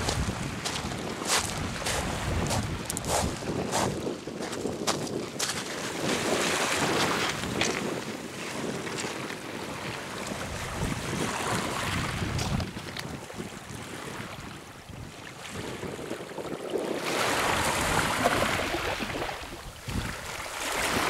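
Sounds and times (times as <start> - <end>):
waves washing over pebbles: 0.0 - 14.6, 15.3 - 21.0
wind buffeting microphone: 0.0 - 21.0.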